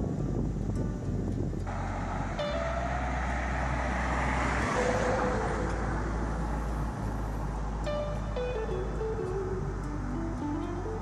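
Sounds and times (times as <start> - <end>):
vehicle passing tyre noise: 0.0 - 11.0.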